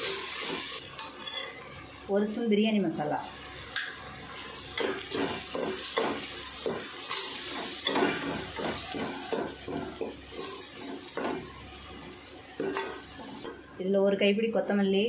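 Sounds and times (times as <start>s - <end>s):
food sizzling in oil: 0.0s - 13.9s.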